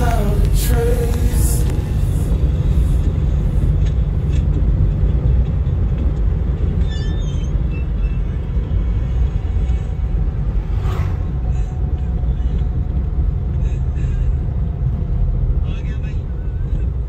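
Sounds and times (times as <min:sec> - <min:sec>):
car driving at highway speed: 0:00.0 - 0:17.0.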